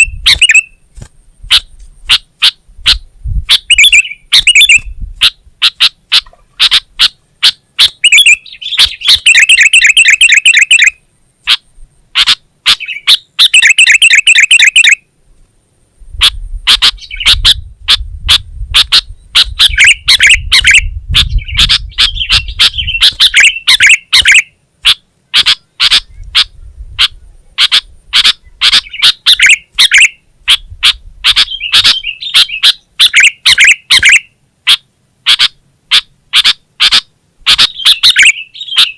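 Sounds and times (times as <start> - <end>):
bird chirping and trilling: 0.0 - 15.1, 16.1 - 38.9.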